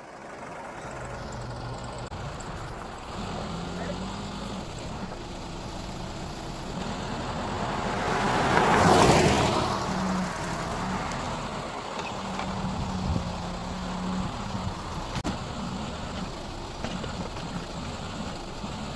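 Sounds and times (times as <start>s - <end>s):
engine running: 0.0s - 18.9s.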